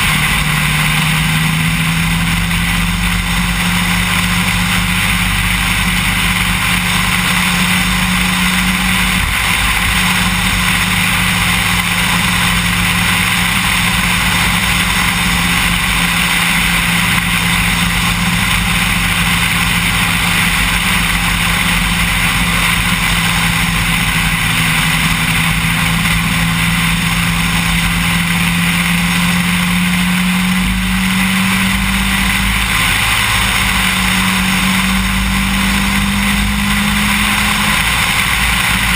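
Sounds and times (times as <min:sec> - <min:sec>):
car engine droning: 0:00.0 - 0:38.9.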